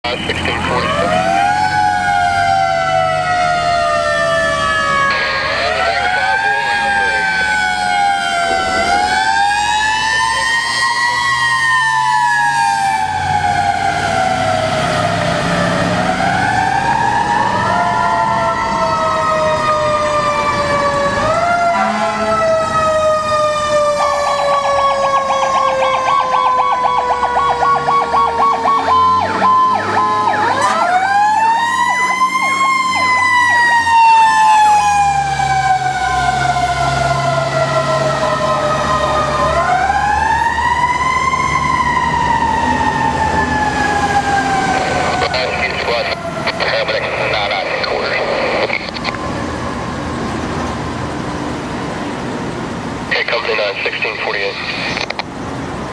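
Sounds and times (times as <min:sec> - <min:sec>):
fire truck sirens wailing: 0:00.0 - 0:55.9
low rumble of truck engines: 0:00.1 - 0:55.9
fast pulsing siren tone: 0:00.3 - 0:48.7.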